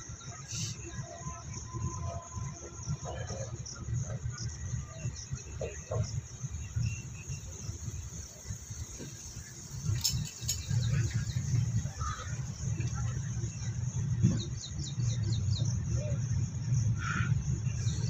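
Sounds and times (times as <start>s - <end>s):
steady high hiss: 0.0s - 18.0s
wind buffeting microphone: 0.8s - 18.0s
train coach rumble: 2.4s - 18.0s.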